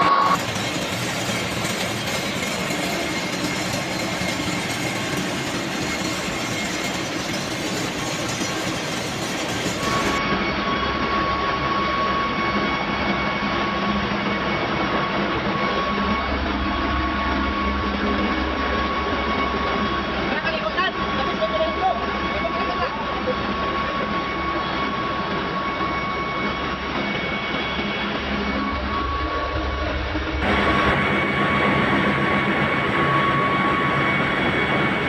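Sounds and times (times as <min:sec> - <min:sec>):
engine room machinery roar: 0:00.0 - 0:35.0
steady high whine: 0:00.0 - 0:35.0.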